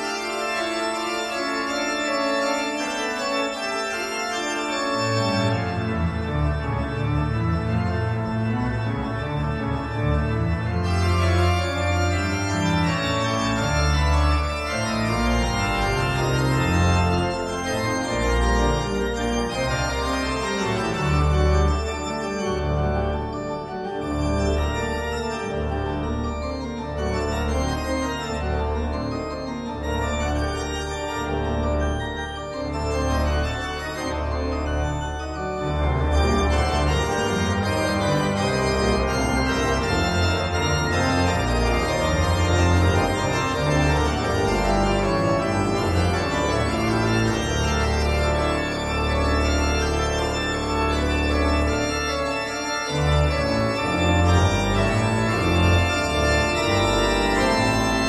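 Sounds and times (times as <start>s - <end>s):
held keyboard chords: 0.0s - 58.0s.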